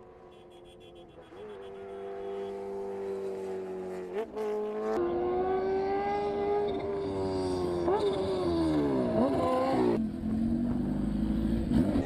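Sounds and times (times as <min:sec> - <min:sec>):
high-revving racing engine: 0:01.2 - 0:12.0.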